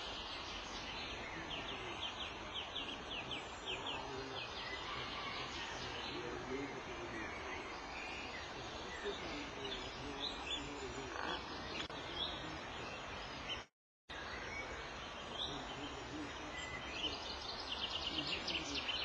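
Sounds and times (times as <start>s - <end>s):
high bird calls: 0.0s - 19.0s.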